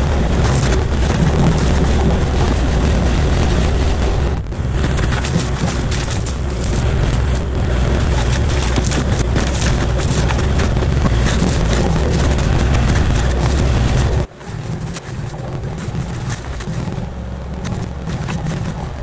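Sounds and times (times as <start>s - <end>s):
diesel engine drone: 0.0s - 19.0s
mulcher grinding brush: 0.0s - 19.0s.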